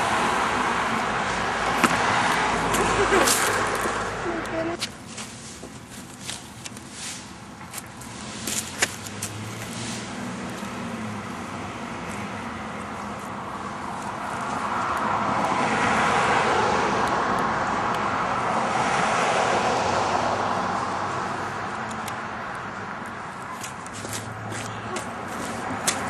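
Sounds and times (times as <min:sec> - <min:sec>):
vehicle tyre and engine noise: 0:00.0 - 0:26.0.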